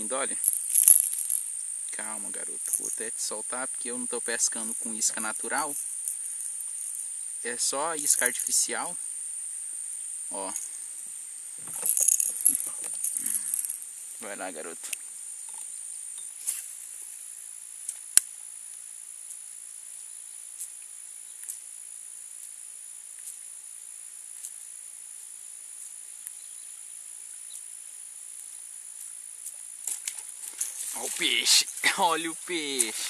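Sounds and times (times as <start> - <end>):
insects chorus: 0.0 - 33.0.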